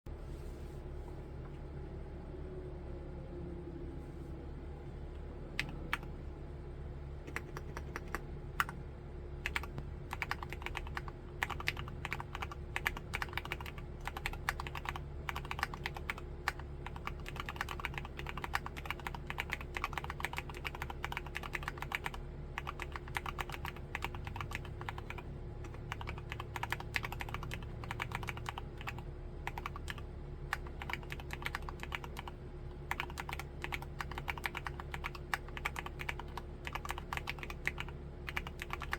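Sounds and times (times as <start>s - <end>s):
mechanical keyboard typing: 5.6s - 6.1s, 7.3s - 8.8s, 9.4s - 38.9s.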